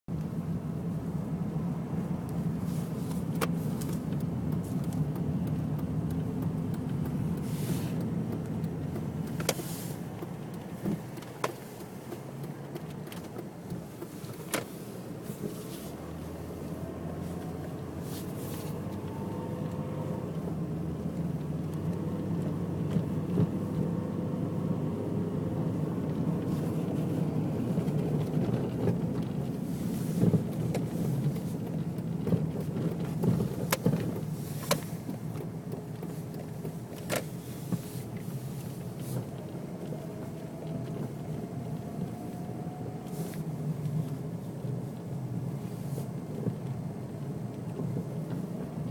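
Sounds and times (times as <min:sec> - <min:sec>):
car engine humming: 0:00.1 - 0:48.9.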